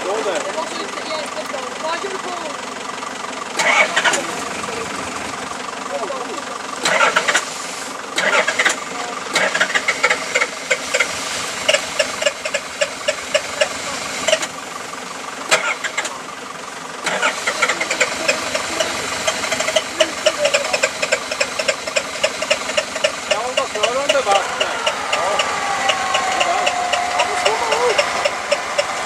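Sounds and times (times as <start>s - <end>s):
engine running hard under load: 0.0s - 29.0s.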